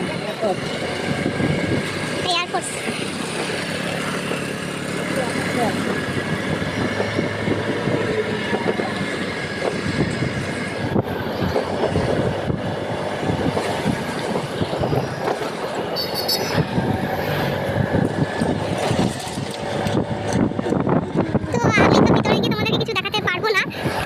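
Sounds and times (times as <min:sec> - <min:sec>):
scooter road noise rumble: 0:00.0 - 0:24.0
wind buffeting microphone: 0:00.6 - 0:24.0.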